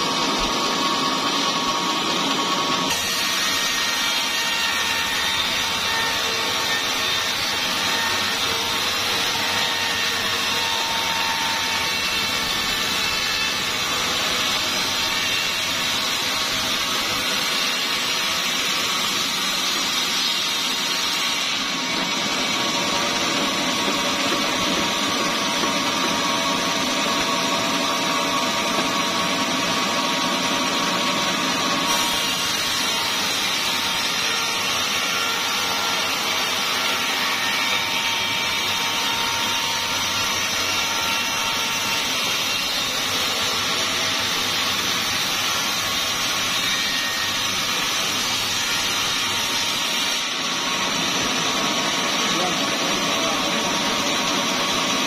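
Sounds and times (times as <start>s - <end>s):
band saw cutting log: 0.0s - 55.0s.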